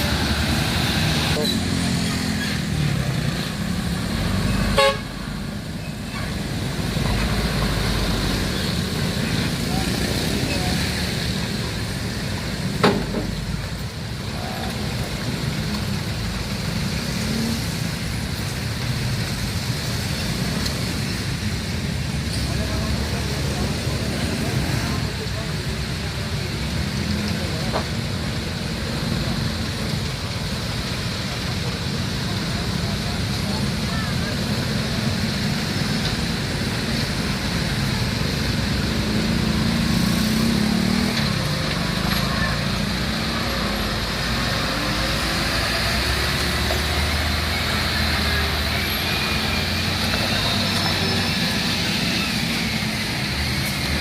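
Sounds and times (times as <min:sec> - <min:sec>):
road traffic engines: 0:00.0 - 0:54.0.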